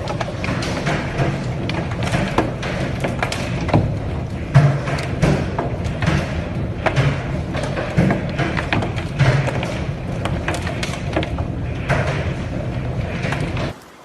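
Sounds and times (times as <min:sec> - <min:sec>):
hailstones pounding hard surfaces: 0:00.0 - 0:13.8.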